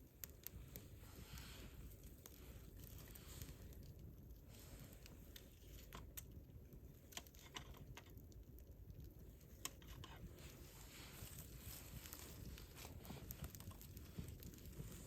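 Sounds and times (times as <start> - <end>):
campfire crackling: 0.0 - 15.0
low steady rumble: 0.0 - 15.0.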